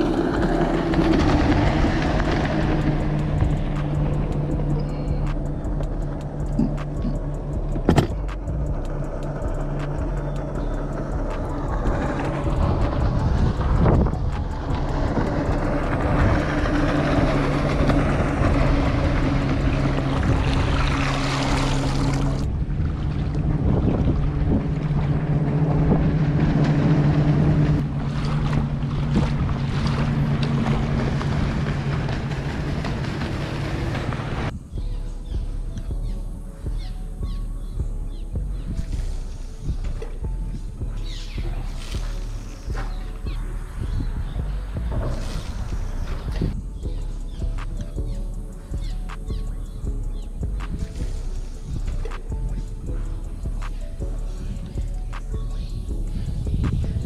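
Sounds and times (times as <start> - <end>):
motorboat engine humming: 0.0 - 57.0
water noise: 0.0 - 57.0
wind: 0.0 - 57.0.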